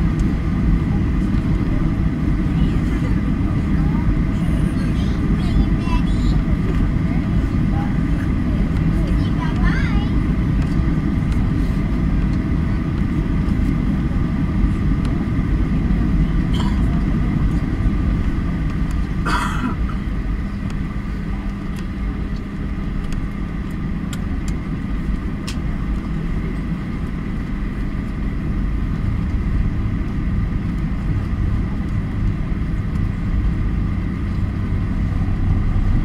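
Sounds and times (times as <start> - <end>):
jet engines humming and rumbling: 0.0 - 36.0.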